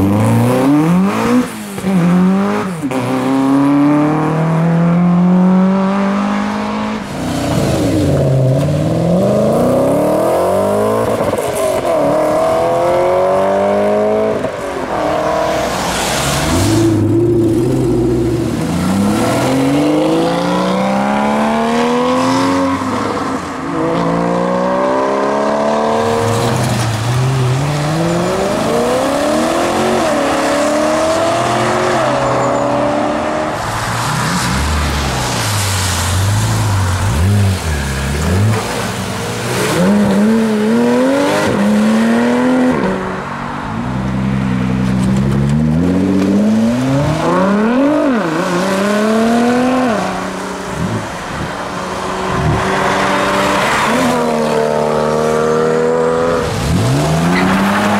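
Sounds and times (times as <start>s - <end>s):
car engines accelerating hard: 0.0s - 57.9s.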